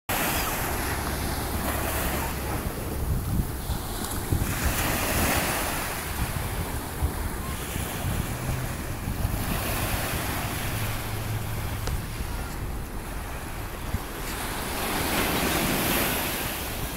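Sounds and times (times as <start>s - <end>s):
surf washing up beach: 0.1s - 16.9s
wind rumbling on microphone: 0.1s - 16.9s.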